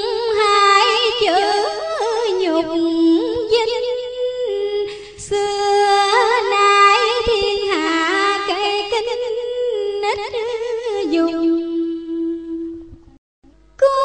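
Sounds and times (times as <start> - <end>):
slow wavering vocal melody: 0.0 - 14.0.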